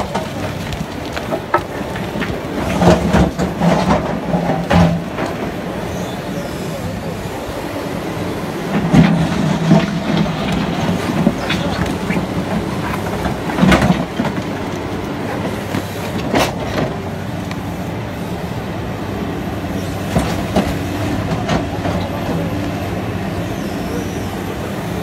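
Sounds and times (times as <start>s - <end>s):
diesel engine running: 0.0s - 25.0s
hydraulics working: 0.0s - 25.0s.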